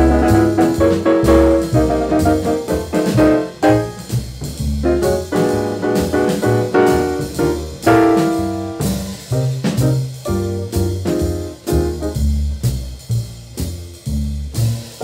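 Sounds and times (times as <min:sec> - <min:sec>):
drums: 0:00.0 - 0:15.0
piano: 0:00.0 - 0:15.0
stepping bass line: 0:00.0 - 0:15.0.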